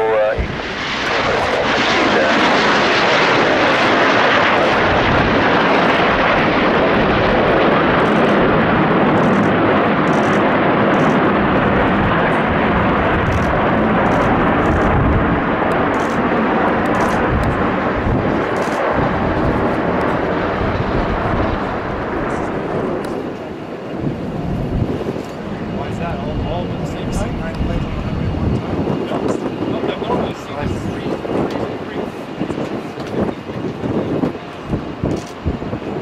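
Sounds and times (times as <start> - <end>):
jet planes roaring past: 0.0 - 36.0.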